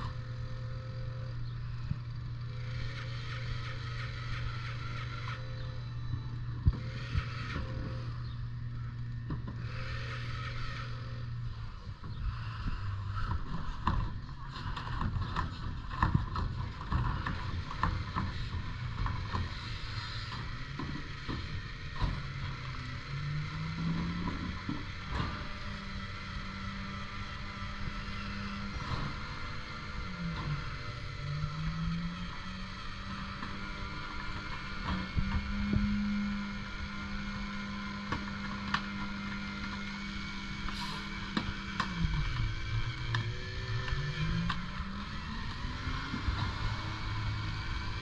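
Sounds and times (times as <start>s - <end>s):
diesel engine idling and revving: 0.0s - 48.0s.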